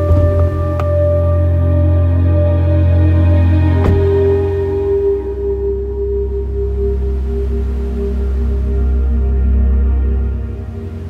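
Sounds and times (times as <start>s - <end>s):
low drone: 0.0s - 11.0s
slow sustained chords music: 0.0s - 11.0s.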